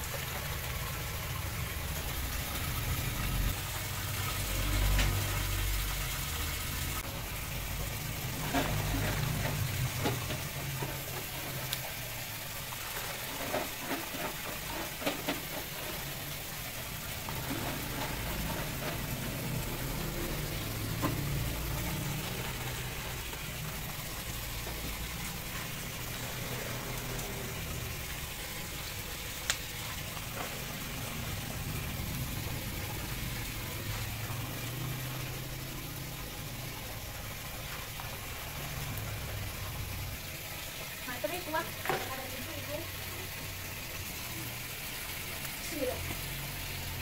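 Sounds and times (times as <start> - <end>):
food sizzling in oil: 0.0 - 47.0.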